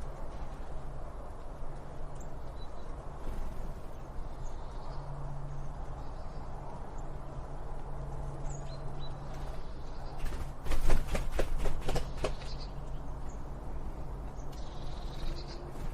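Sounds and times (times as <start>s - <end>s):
faint birds chirping: 0.0s - 15.9s
low background hum: 0.0s - 15.9s.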